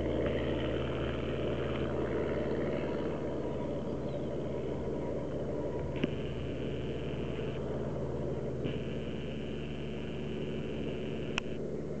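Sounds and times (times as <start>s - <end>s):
airplane piston engine running: 0.0s - 12.0s
thin high whine: 0.0s - 12.0s.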